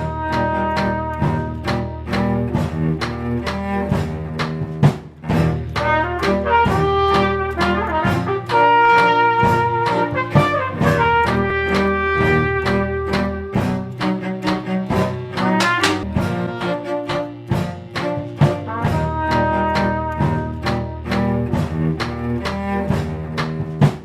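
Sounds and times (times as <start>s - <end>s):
instrumental music with brass and strings: 0.0s - 24.0s
percussive strikes: 0.0s - 24.0s.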